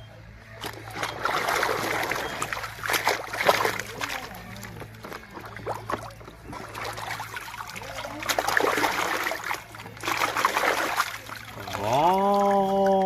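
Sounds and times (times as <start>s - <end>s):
steady low hum: 0.0s - 13.0s
water splashing and trickling: 0.5s - 13.0s.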